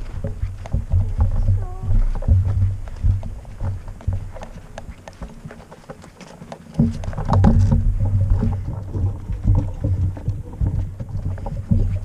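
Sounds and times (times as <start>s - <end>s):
wind buffeting microphone: 0.0s - 5.8s, 6.6s - 12.0s
footsteps on dry grass and twigs: 0.0s - 12.0s.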